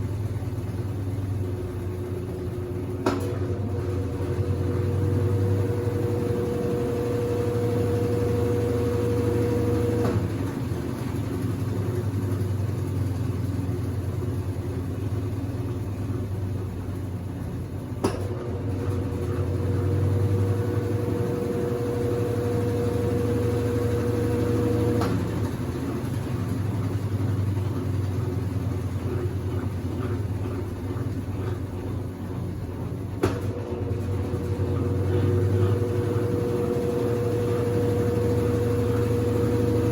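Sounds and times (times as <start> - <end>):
washing machine hum: 0.0 - 39.9.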